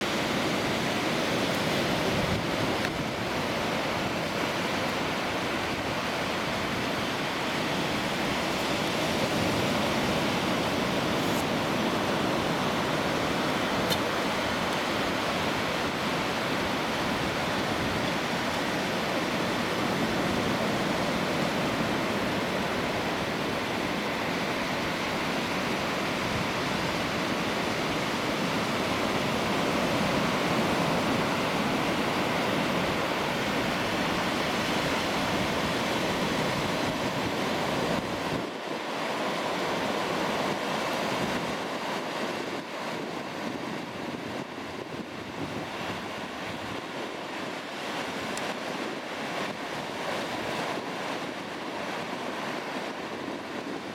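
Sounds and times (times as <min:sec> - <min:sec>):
surf breaking on beach: 0:00.0 - 0:53.9.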